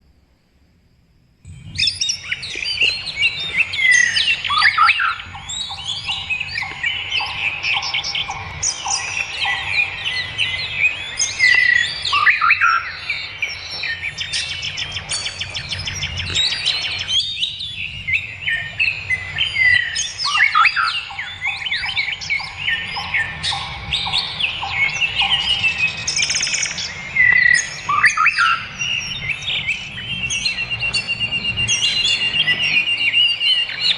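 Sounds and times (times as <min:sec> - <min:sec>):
bird repeating low notes: 0:01.4 - 0:33.9
songbirds chirping and singing: 0:01.5 - 0:33.9.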